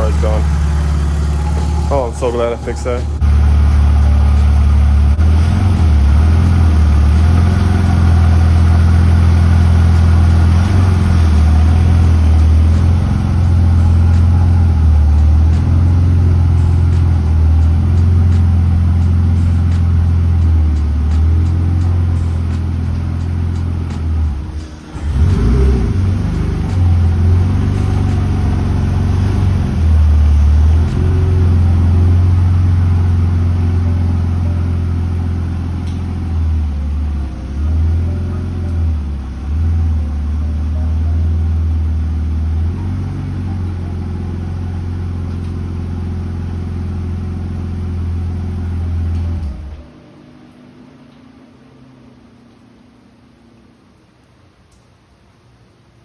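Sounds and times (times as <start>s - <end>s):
car engine revving: 0.0s - 49.8s.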